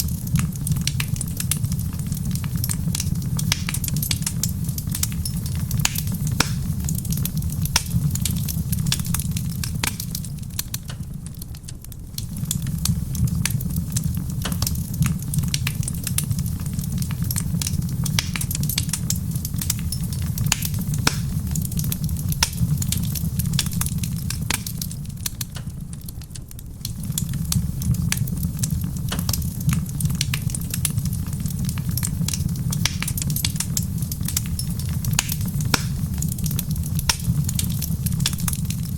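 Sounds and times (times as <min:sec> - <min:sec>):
steady low rumble: 0:00.0 - 0:26.0, 0:26.7 - 0:38.9
wood fire crackling: 0:00.0 - 0:38.9.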